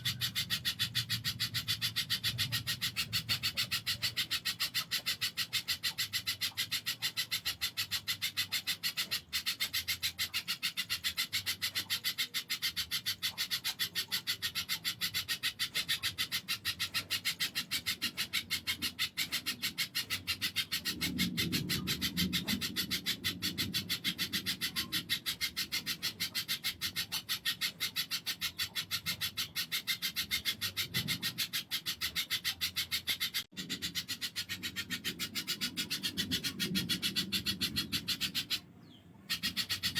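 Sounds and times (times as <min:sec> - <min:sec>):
bird calling in rattling clicks: 0:00.0 - 0:38.6.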